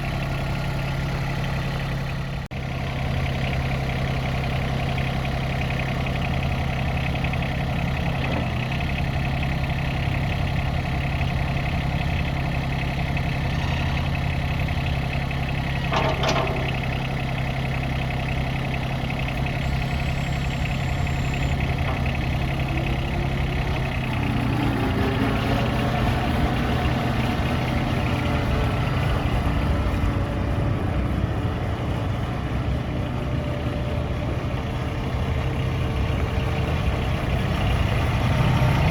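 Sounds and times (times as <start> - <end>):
tractor diesel engine idling: 0.0 - 38.9.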